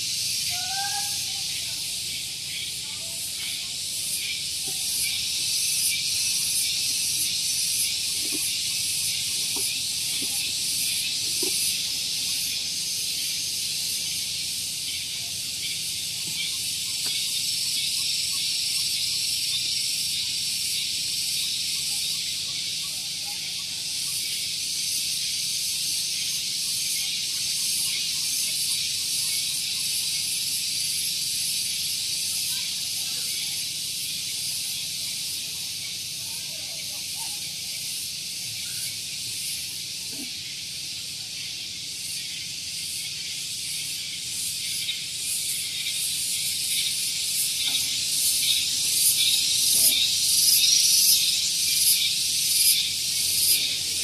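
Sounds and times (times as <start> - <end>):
cicadas singing: 0.0 - 54.0.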